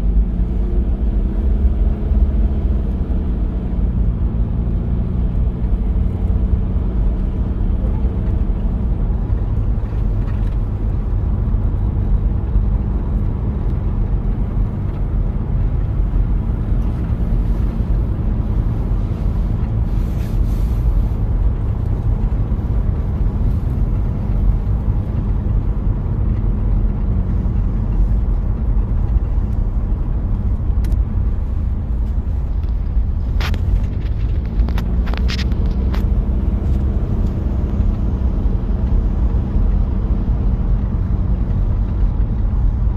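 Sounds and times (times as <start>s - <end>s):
diesel engine droning: 0.0s - 42.9s
tyre and road noise: 0.0s - 42.9s.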